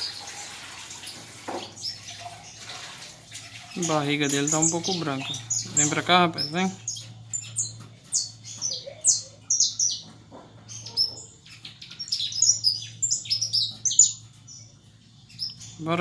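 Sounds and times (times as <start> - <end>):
canary chirping and calling: 0.0 - 16.0.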